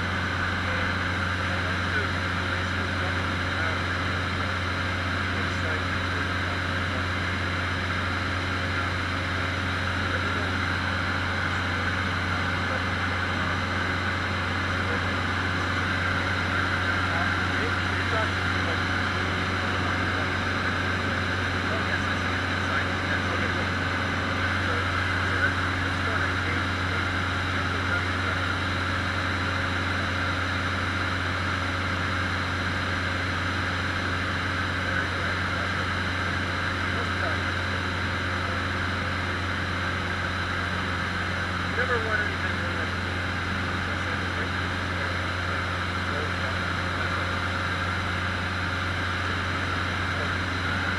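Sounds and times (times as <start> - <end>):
airplane engine and propeller droning: 0.0 - 50.9.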